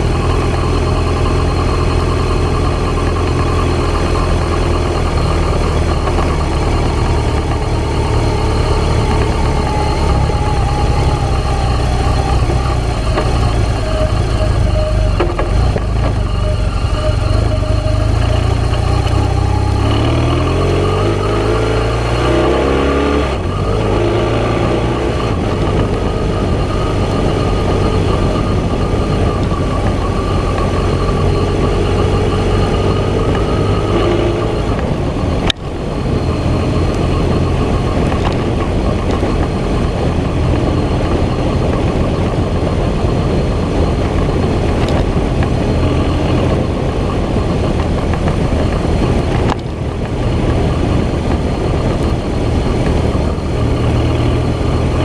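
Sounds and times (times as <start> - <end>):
vehicle engine driving on dirt: 0.0 - 55.0.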